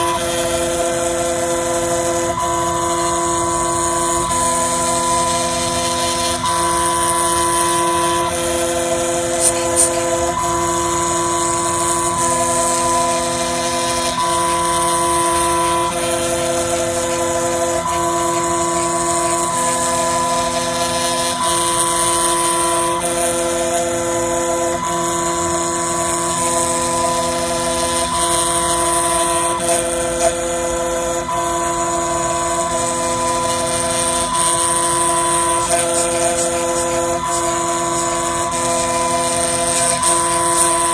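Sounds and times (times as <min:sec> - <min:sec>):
spindle and cutter hiss: 0:00.0 - 0:40.9
stepper motors whining: 0:00.0 - 0:40.9.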